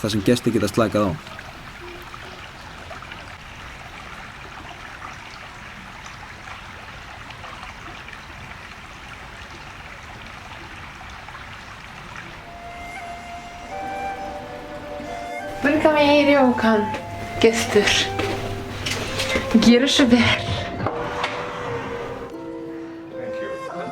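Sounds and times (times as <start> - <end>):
water trickling: 0.0 - 22.4.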